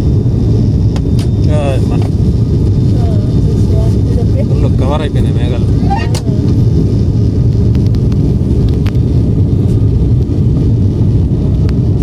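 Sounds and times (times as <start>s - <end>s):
aeroplane cabin engine rumble: 0.0s - 12.0s.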